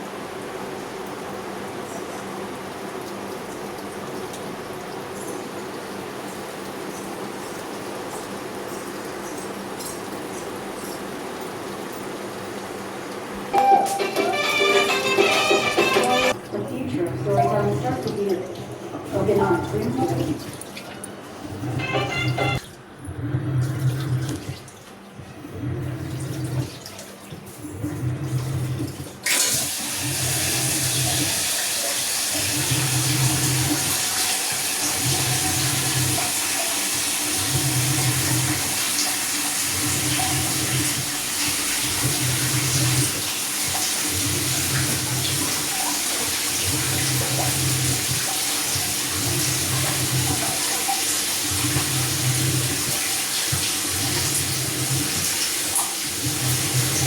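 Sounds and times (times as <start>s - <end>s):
water rushing into washing machine: 0.0s - 57.0s.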